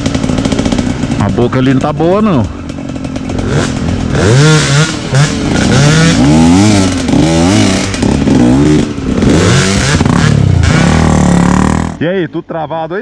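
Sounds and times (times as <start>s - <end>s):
motorcycle engine revving: 0.0s - 12.1s.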